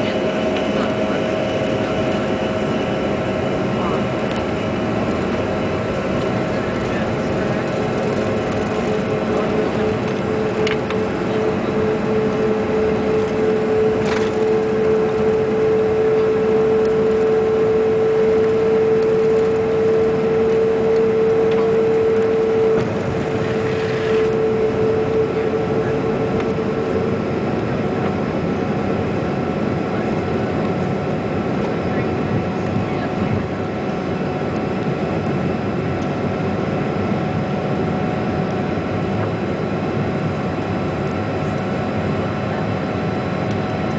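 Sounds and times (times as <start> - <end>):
jet engine whine: 0.0 - 43.9.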